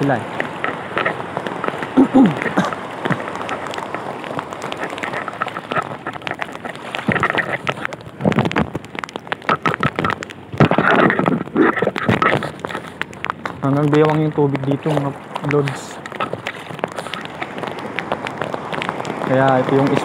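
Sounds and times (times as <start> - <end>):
water sloshing and splashing: 0.0 - 20.0.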